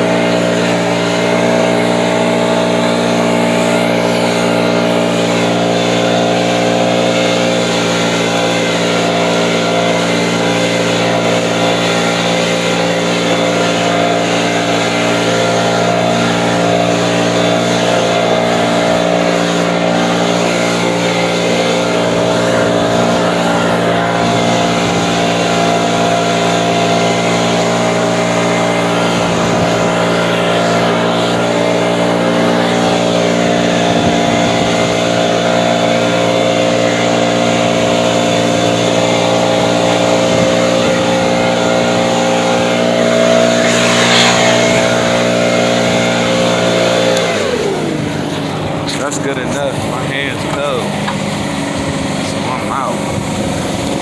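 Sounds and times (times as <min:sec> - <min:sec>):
snow blower engine: 0:00.0 - 0:54.0.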